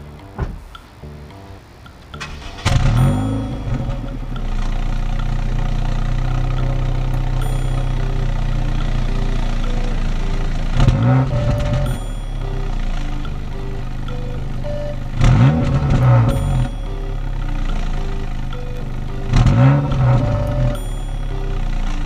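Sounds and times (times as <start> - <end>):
car engine idling: 0.0 - 22.0
throttle blip: 0.0 - 22.0.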